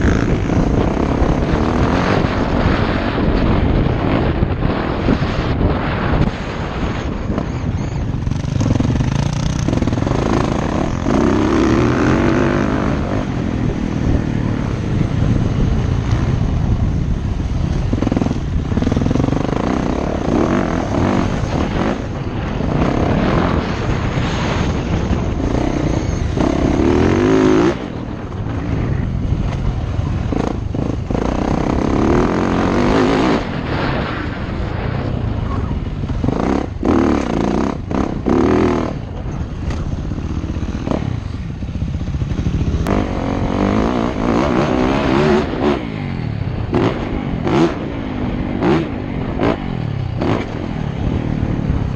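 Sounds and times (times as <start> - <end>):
dirt bike engine revving: 0.0 - 35.0, 36.0 - 51.9.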